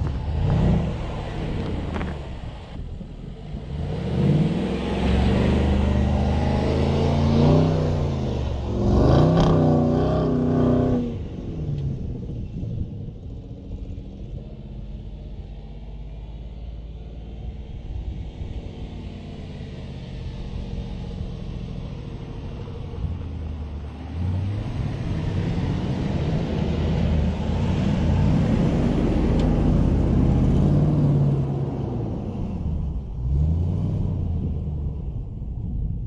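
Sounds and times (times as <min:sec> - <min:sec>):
car engine revving in sand: 0:00.0 - 0:36.0.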